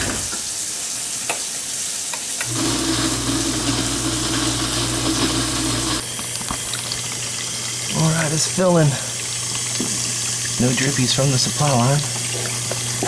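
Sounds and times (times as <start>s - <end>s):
water hissing into dishwasher: 0.0s - 13.0s.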